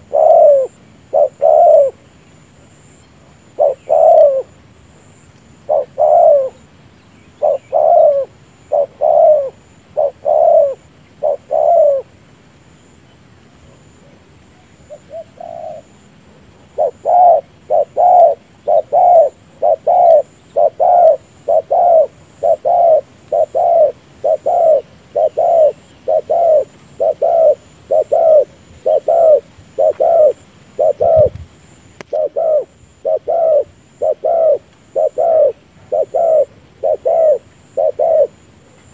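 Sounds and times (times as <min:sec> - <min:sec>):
dove cooing: 0:00.0 - 0:02.1, 0:02.9 - 0:04.6, 0:05.6 - 0:06.6, 0:07.4 - 0:12.2, 0:14.8 - 0:31.4, 0:32.0 - 0:38.9.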